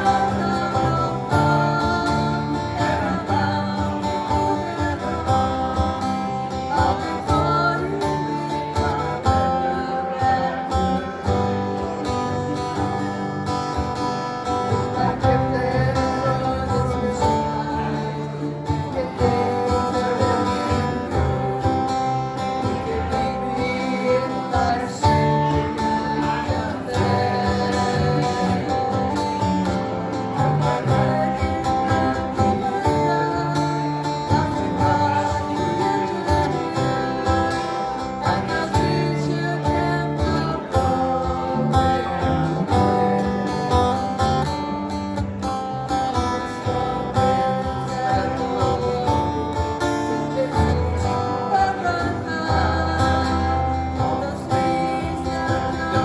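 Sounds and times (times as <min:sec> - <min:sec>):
acoustic guitar strumming: 0:00.0 - 0:56.0
held melody line: 0:00.0 - 0:56.0.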